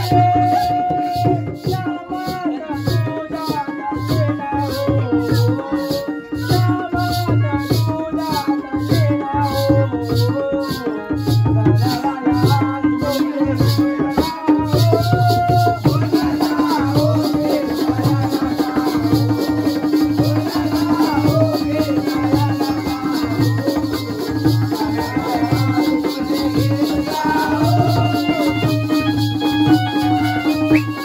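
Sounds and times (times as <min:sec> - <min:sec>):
drum beat: 0:00.0 - 0:31.0
person singing: 0:00.0 - 0:31.0.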